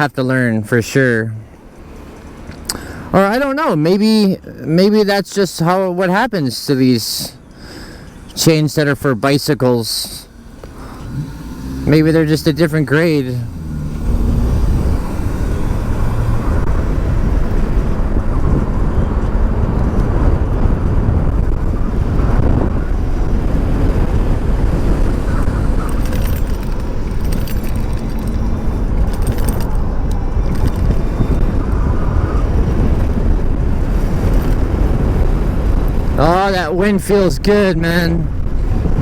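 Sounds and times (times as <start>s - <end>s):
road noise: 0.0s - 39.0s
wind buffeting microphone: 7.4s - 39.0s.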